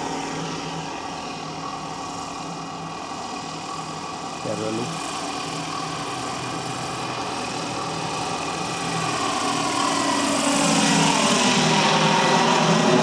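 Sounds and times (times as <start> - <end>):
model helicopter running: 0.0 - 13.0.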